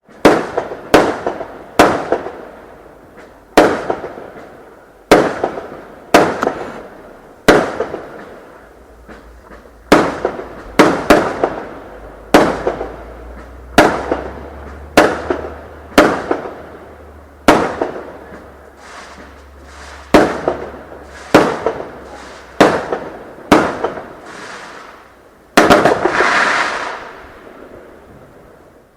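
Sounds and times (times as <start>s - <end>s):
fireworks exploding: 0.0s - 28.9s.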